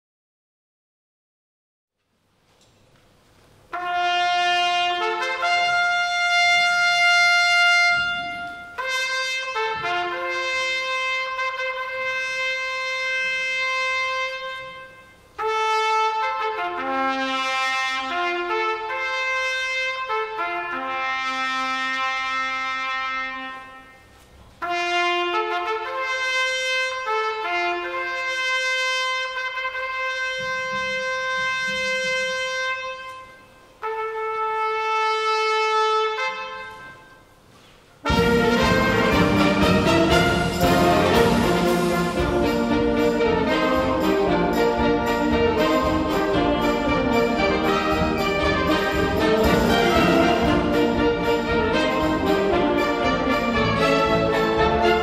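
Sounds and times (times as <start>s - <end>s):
solo trumpet melody: 3.7s - 55.0s
wind band playing: 3.7s - 55.0s.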